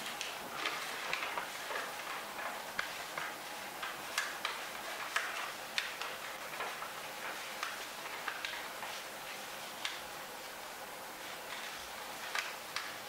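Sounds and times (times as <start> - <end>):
paper being folded and creased: 0.0 - 10.6, 11.2 - 13.0.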